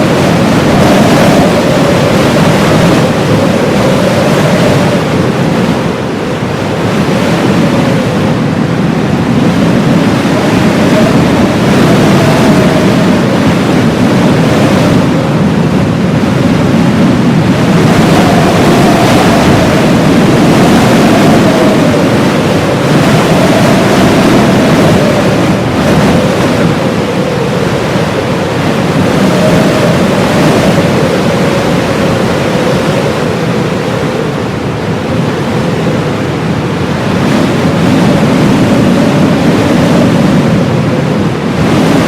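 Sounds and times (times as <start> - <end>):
blizzard wind rushing: 0.0 - 42.0
wavering wind howl: 0.0 - 42.0.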